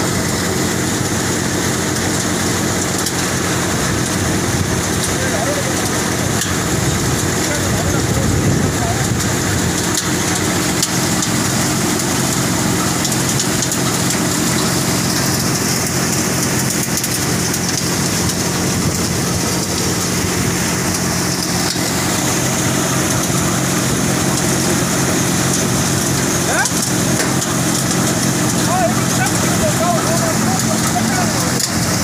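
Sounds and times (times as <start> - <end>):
thresher engine and drum hum: 0.0 - 32.0.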